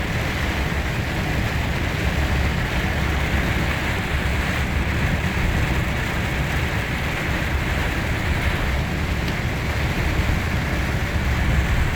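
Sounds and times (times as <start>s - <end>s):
vehicle driving through heavy rain: 0.0s - 11.9s.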